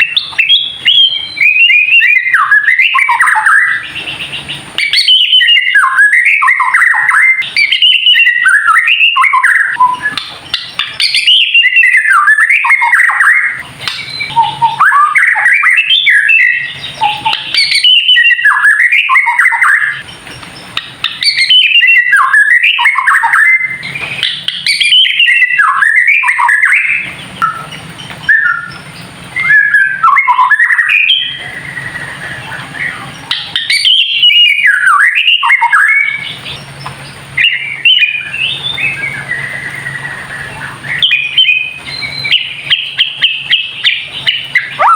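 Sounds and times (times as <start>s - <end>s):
bird chattering rattling song: 0.0s - 44.9s.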